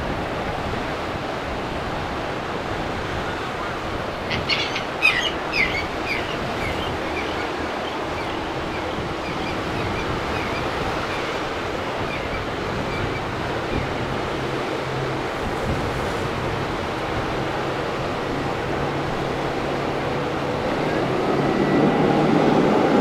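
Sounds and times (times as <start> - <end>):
surf: 0.0 - 23.0
wind: 0.0 - 23.0.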